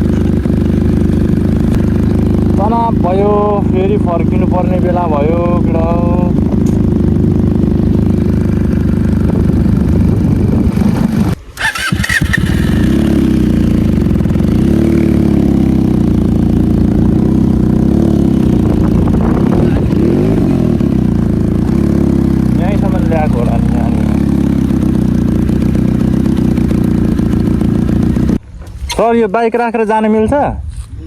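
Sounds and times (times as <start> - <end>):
motorcycle engine revving: 0.0 - 29.1.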